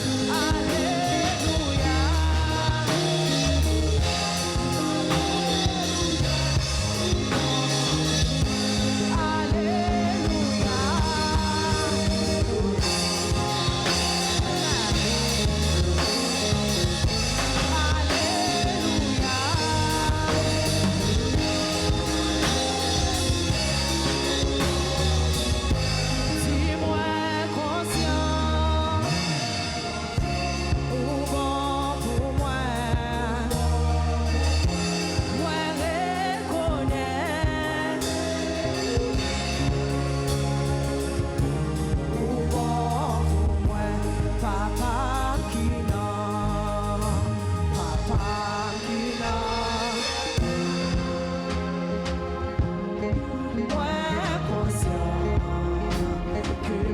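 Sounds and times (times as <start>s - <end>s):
bass line: 0.0s - 56.9s
drum kit: 0.0s - 56.9s
person singing: 0.0s - 56.9s.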